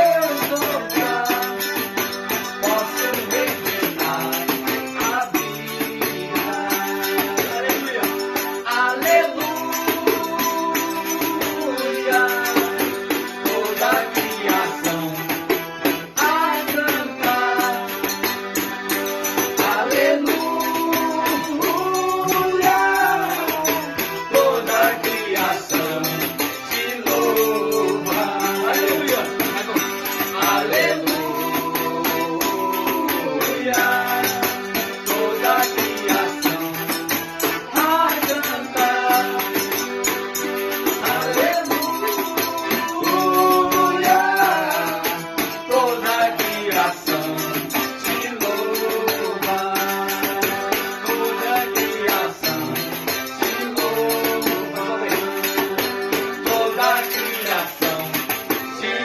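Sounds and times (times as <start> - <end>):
shaker or tambourine beat: 0.0 - 59.0
worship band music: 0.0 - 59.0.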